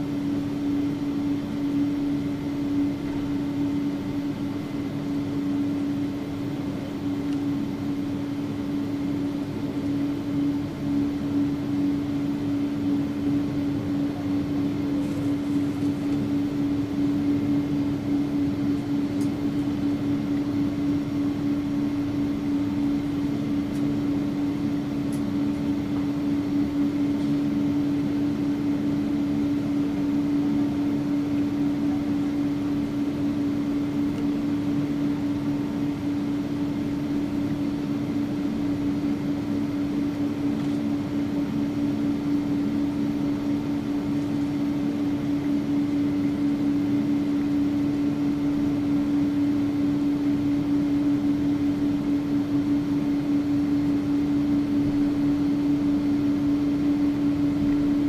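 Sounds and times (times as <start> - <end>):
cabin hum tone: 0.0 - 58.0.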